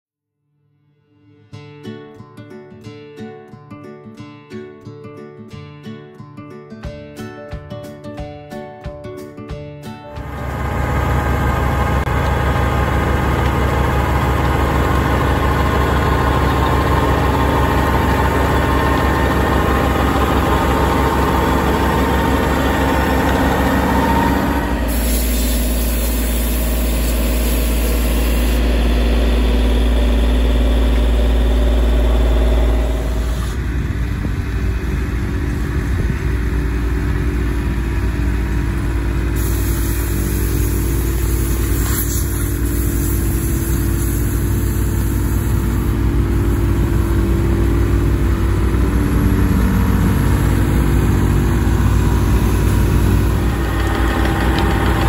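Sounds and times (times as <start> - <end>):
tractor engine running: 10.1 - 55.0.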